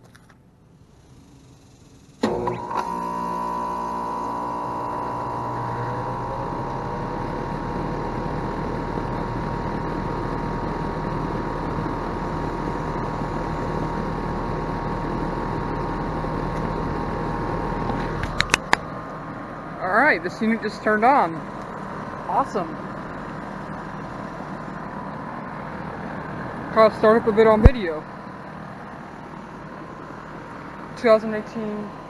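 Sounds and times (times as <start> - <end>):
air conditioning unit running: 0.0 - 32.0
deep hum: 3.1 - 32.0.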